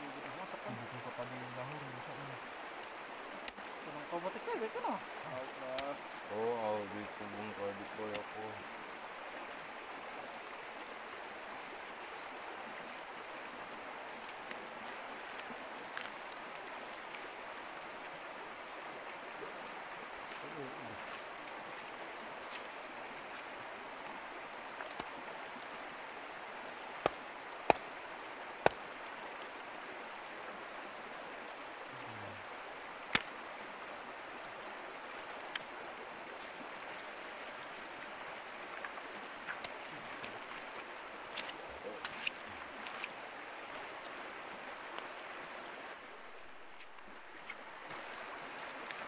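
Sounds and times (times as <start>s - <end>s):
stream flowing over stones: 0.0s - 49.0s.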